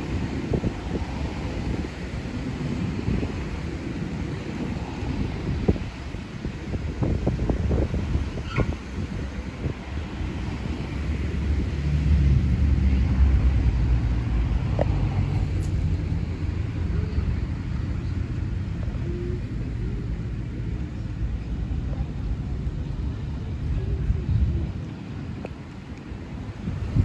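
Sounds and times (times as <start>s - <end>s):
passing motor vehicle rumble: 0.0s - 27.0s.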